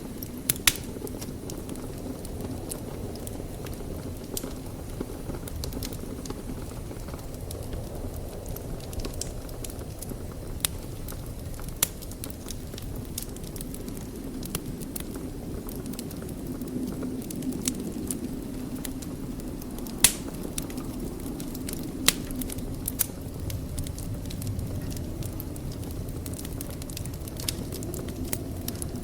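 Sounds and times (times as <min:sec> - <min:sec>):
fire crackling and popping: 0:00.0 - 0:29.0
fire rushing: 0:00.0 - 0:29.0.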